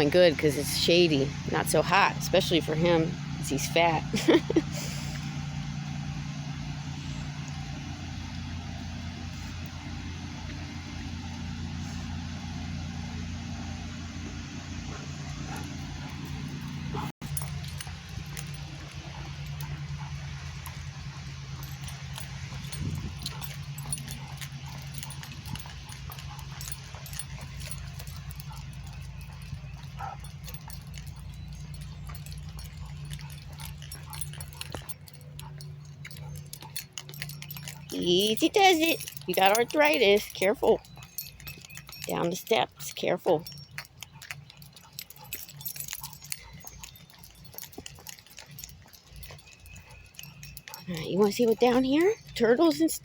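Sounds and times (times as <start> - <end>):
low motor hum: 0.0 - 53.0
dog panting: 0.4 - 5.4, 14.8 - 52.6.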